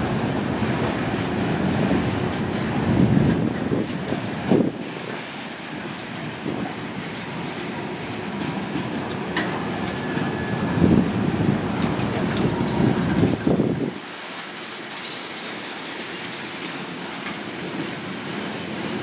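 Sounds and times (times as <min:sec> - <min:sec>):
train wheels rumbling: 0:00.0 - 0:19.0
wheels clacking over rail joints: 0:00.0 - 0:19.0.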